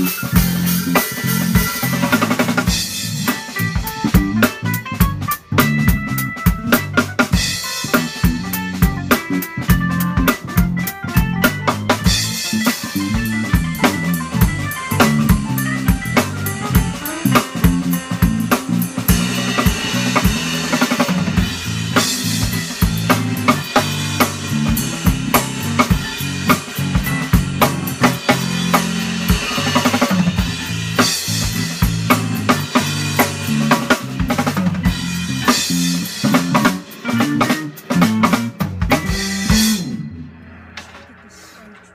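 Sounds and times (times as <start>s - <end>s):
drum kit beat: 0.0s - 41.7s
digital piano: 0.0s - 41.9s
guitar: 0.0s - 41.9s.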